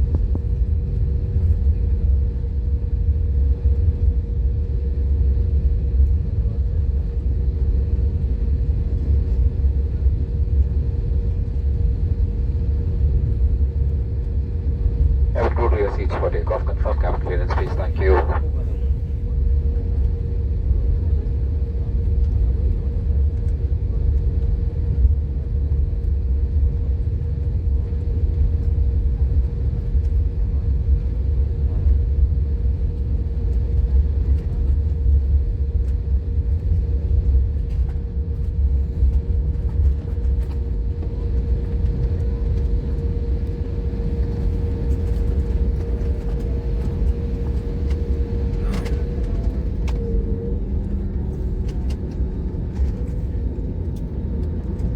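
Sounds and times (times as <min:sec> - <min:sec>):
airliner engines rumbling: 0:00.0 - 0:54.9.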